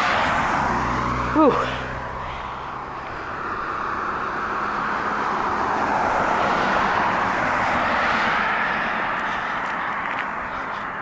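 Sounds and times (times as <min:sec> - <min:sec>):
vehicle tyre and road noise: 0:00.0 - 0:11.0.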